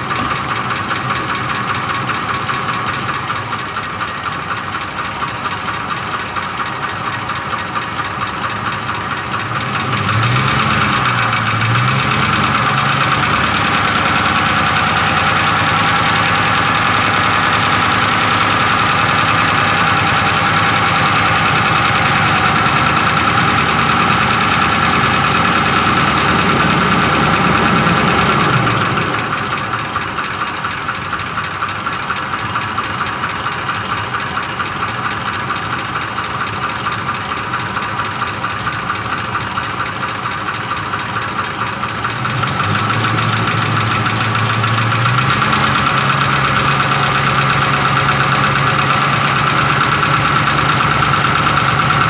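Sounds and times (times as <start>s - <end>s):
engine knocking and idling: 0.0s - 52.0s.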